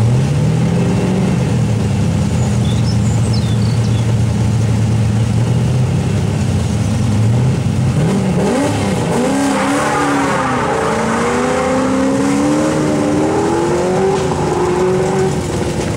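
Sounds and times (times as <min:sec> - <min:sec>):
car engine accelerating: 0:00.0 - 0:15.9.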